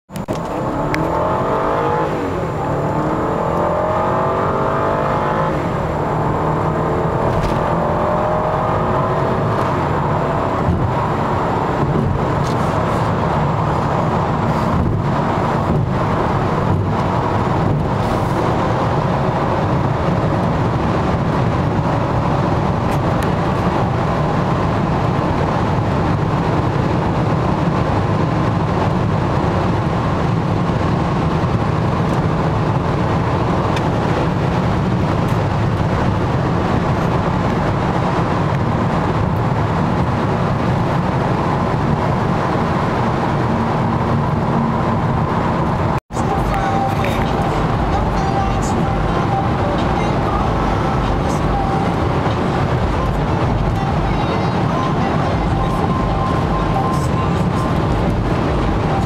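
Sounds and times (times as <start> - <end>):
car engine accelerating hard: 0.1 - 59.0
road and wind noise: 0.1 - 59.0.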